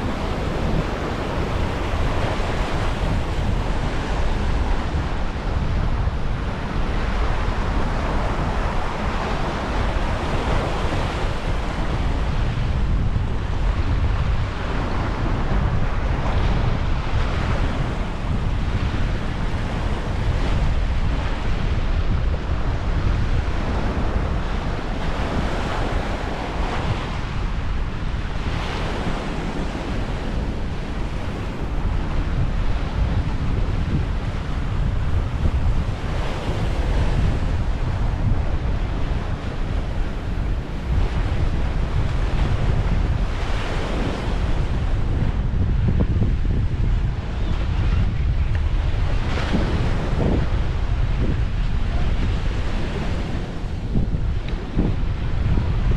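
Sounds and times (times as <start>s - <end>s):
small waves washing onto beach: 0.0s - 55.9s
wind buffeting microphone: 0.0s - 55.9s.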